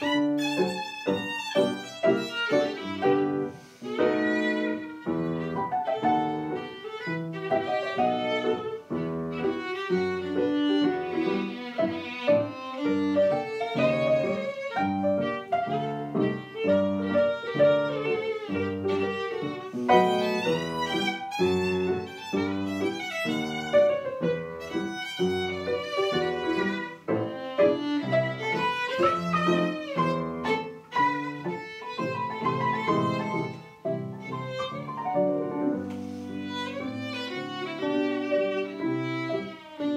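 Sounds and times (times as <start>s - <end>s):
piano accompaniment: 0.0s - 39.9s
violin playing melody: 0.0s - 39.9s.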